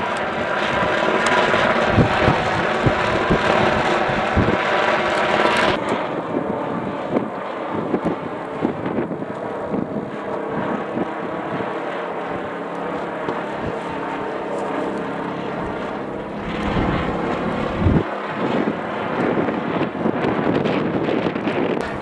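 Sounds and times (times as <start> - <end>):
kite droning and buzzing: 0.0 - 22.0
wind on microphone: 0.0 - 22.0.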